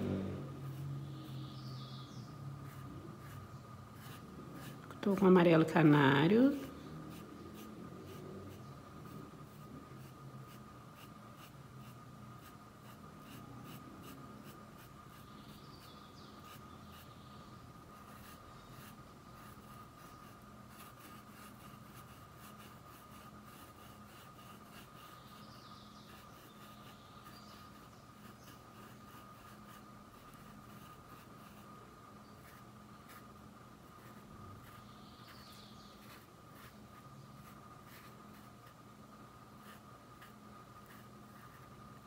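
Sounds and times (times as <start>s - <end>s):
paintbrush scratching on cloth: 0.0s - 1.9s, 2.5s - 42.0s
faint electrical hum: 0.0s - 42.0s.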